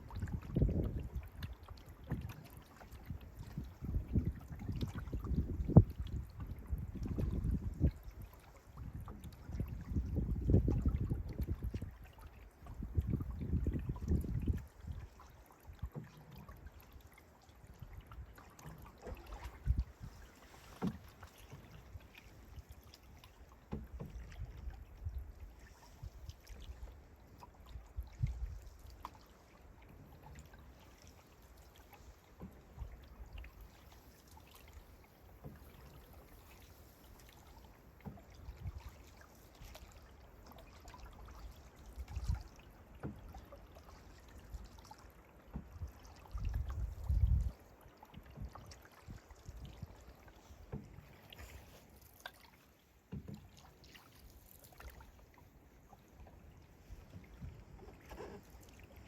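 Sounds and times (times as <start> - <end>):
paddle strokes in water: 0.0 - 59.0.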